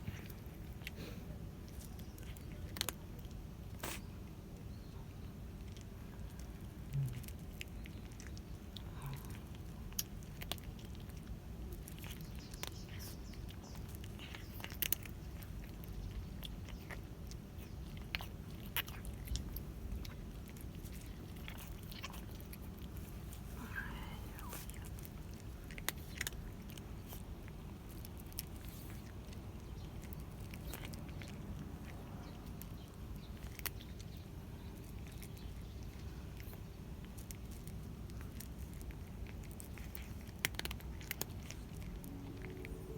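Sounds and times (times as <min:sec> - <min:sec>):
cat crunching food: 0:00.0 - 0:42.9.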